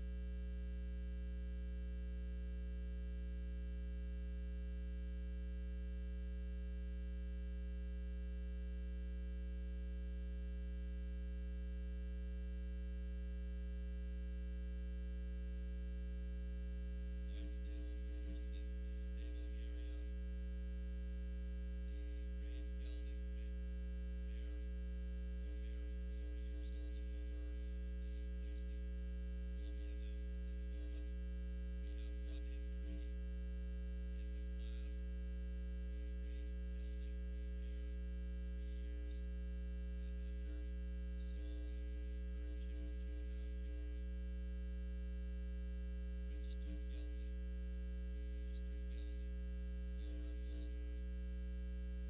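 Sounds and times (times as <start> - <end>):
electrical mains hum: 0.0 - 52.0.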